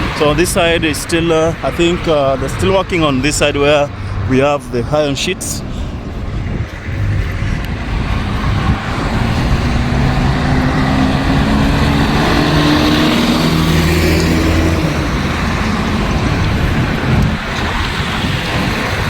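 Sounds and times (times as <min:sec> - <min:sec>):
road traffic: 0:00.0 - 0:19.0
vehicle engine passing close: 0:00.0 - 0:19.0.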